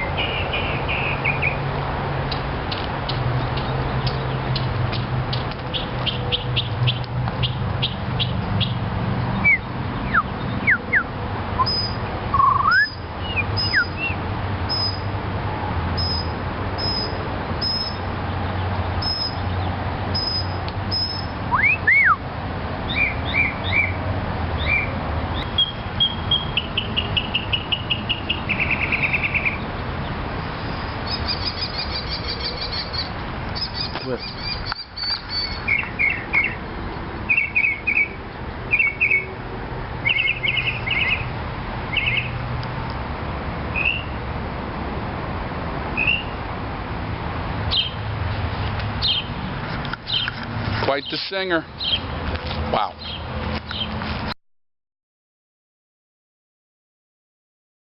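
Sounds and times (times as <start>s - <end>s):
songbird singing: 0.0s - 15.1s, 15.9s - 42.5s, 43.7s - 44.2s, 45.9s - 46.4s, 47.7s - 48.0s, 48.9s - 54.0s.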